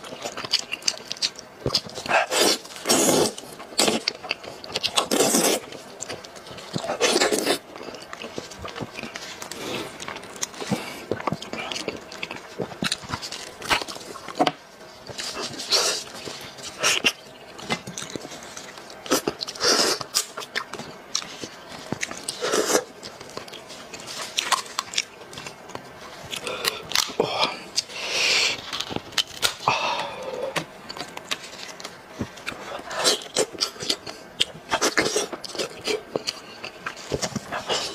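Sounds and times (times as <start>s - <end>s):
person chewing wetly: 0.0s - 37.9s.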